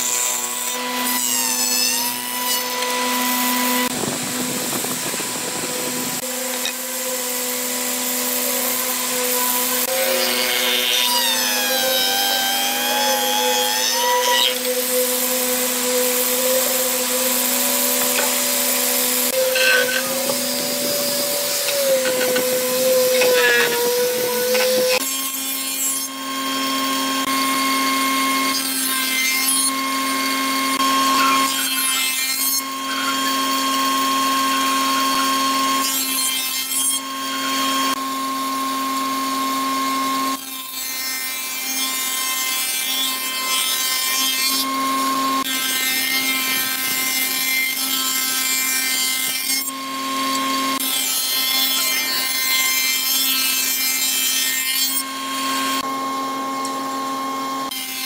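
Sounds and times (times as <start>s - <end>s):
cutter profiling boards: 0.0s - 58.0s
spindle shaper machine whine: 0.0s - 58.0s.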